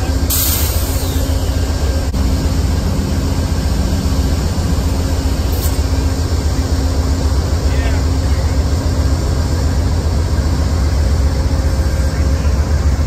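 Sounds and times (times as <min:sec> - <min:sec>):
constant hum: 0:00.0 - 0:13.0
diesel engine rumbling: 0:00.0 - 0:13.0.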